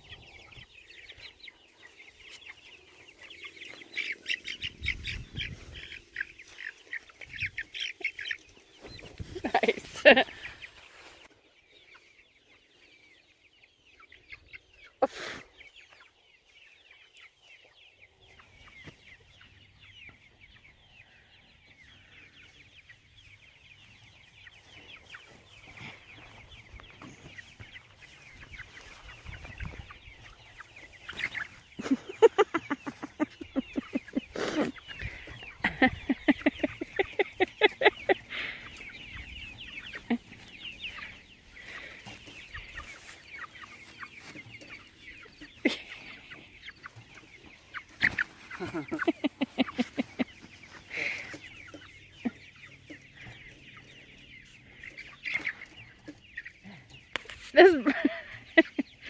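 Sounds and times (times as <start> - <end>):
chickens clucking rapidly: 0.0 - 59.0
chickens peeping: 0.0 - 59.0.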